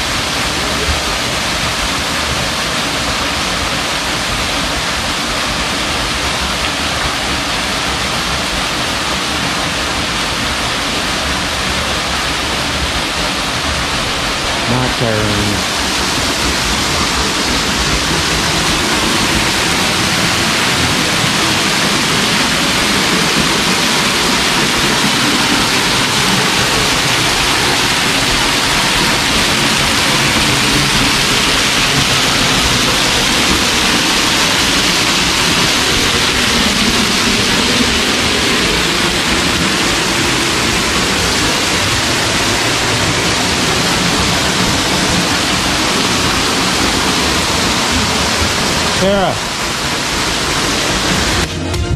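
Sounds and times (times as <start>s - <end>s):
waterfall pouring onto rock: 0.0s - 51.5s.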